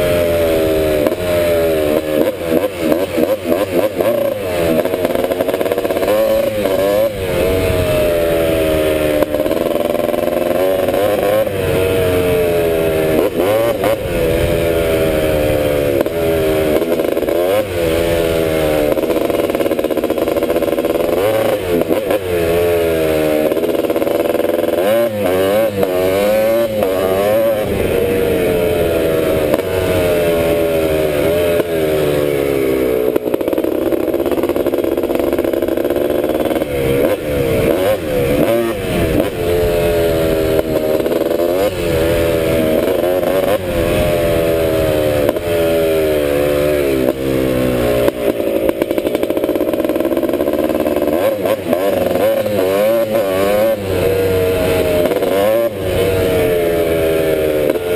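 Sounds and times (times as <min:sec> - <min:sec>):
two-stroke engine revving: 0:00.0 - 0:57.9.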